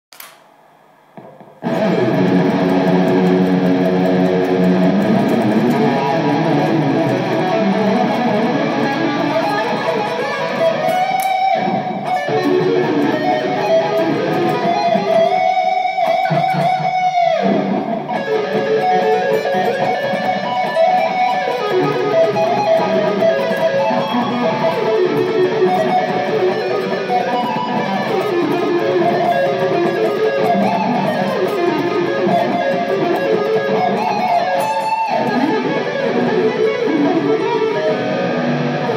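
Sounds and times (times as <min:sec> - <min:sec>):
electric guitar playing rock: 0:01.2 - 0:38.9.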